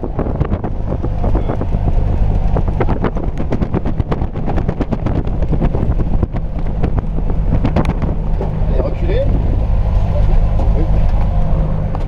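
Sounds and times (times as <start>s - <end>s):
light plane engine drone: 0.0s - 12.0s
wind buffeting microphone: 0.0s - 12.0s.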